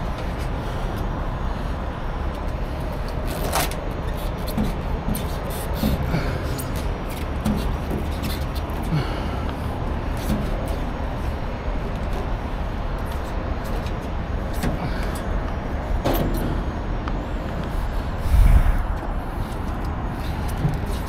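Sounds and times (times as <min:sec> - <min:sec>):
low rumble of traffic: 0:00.0 - 0:21.0
rope sling rustling and clicking: 0:02.3 - 0:16.4, 0:17.5 - 0:21.0.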